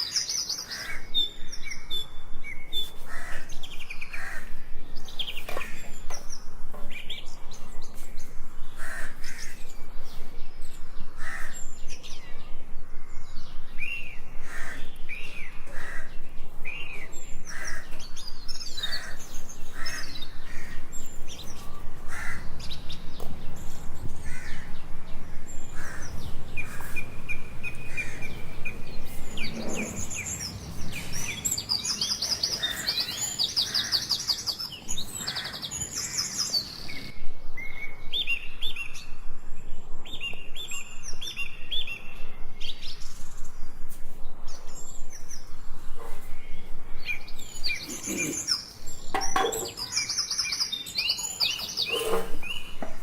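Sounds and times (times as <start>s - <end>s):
birds chirping and trilling: 0.0s - 53.0s.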